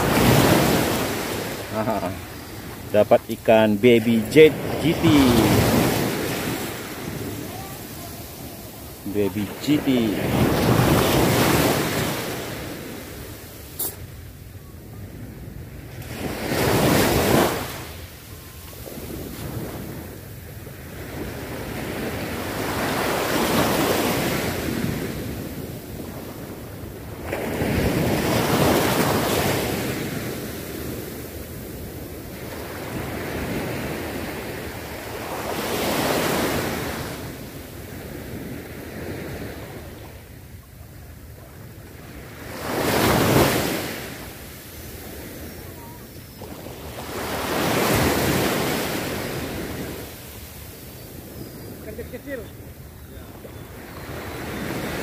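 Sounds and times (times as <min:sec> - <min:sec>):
small waves breaking on sand: 0:00.0 - 0:55.0.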